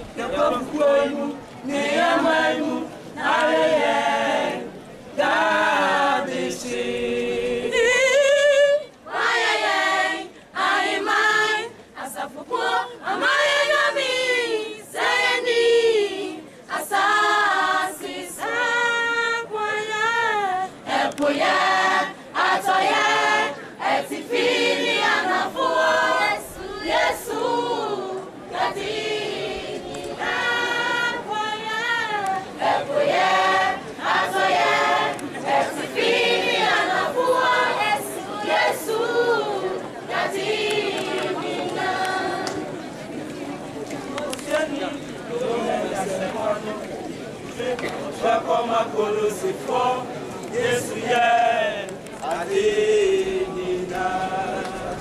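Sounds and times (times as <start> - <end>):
children's choir singing unaccompanied: 0.0 - 55.0.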